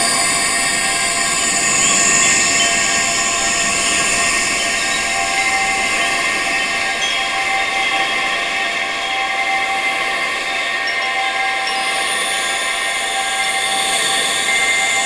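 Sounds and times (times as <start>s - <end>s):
metal wind chimes ringing: 0.0s - 15.0s.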